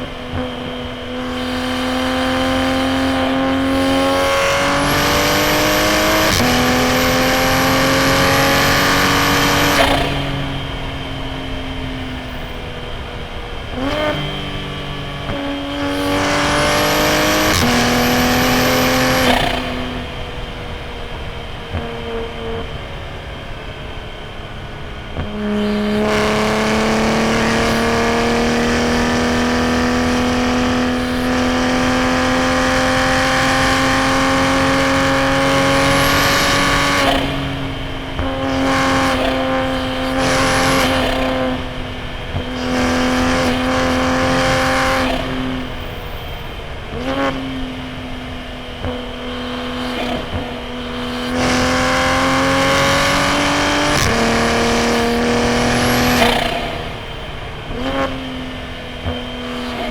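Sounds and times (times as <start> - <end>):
car engine revving under load: 0.0 - 59.9.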